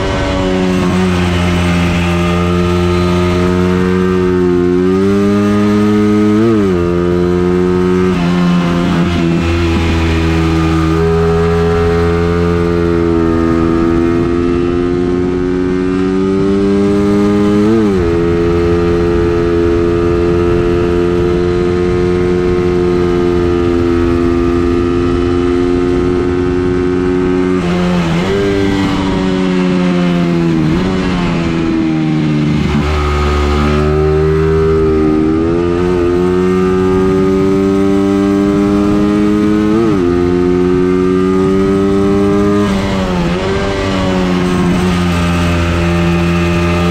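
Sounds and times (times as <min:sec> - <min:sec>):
engine revving through gears: 0:00.0 - 0:46.9.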